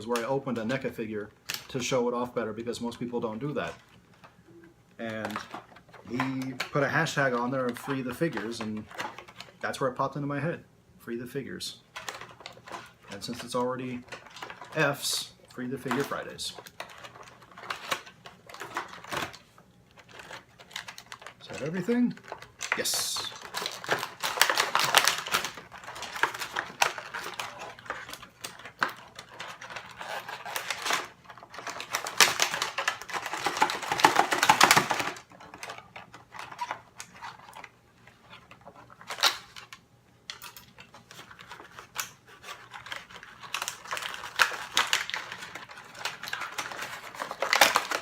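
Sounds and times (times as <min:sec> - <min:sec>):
plastic packaging rustling and clicking: 0:00.0 - 0:10.2, 0:11.8 - 0:48.0.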